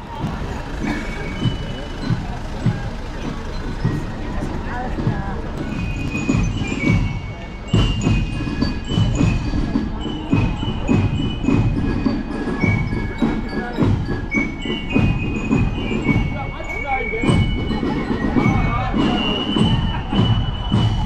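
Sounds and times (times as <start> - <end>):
steady drum beats: 0.0 - 21.0
glockenspiel melody: 0.1 - 21.0.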